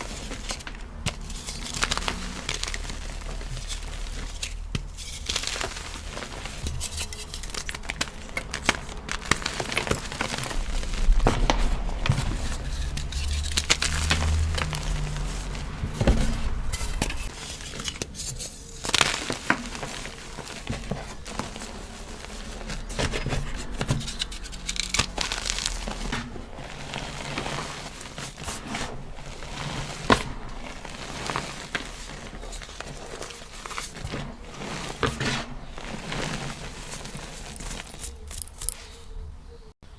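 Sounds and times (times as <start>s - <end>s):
chalk being crushed: 0.0s - 39.0s.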